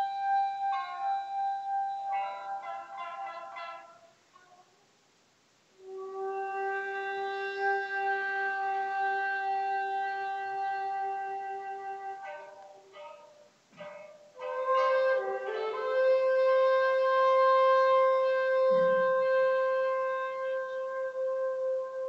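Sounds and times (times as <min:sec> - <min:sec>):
bamboo flute notes: 0:00.0 - 0:04.8, 0:05.8 - 0:22.0.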